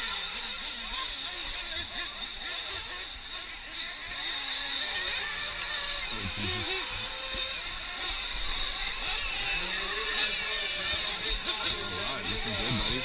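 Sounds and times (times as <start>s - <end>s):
rc truck engines whining: 0.0s - 13.0s.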